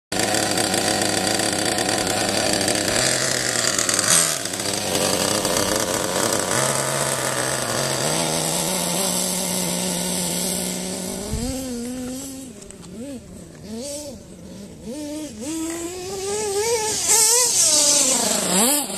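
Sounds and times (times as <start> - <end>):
model car engine revving: 0.1 - 18.9.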